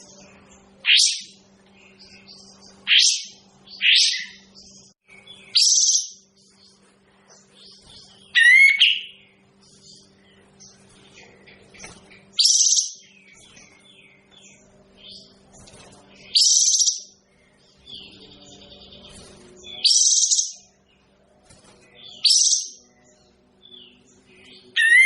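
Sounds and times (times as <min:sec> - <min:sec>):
songbird calling: 0:00.0 - 0:15.3, 0:16.1 - 0:20.8, 0:21.9 - 0:25.0
faint electrical hum: 0:00.0 - 0:25.0.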